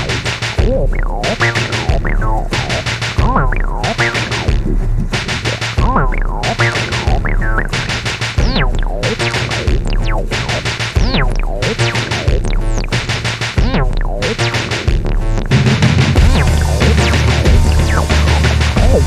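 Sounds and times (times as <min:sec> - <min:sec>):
synthesizer pitch glides: 0:00.0 - 0:13.0, 0:16.2 - 0:19.0
deep bass: 0:00.0 - 0:19.0
drum machine beat: 0:00.0 - 0:19.0.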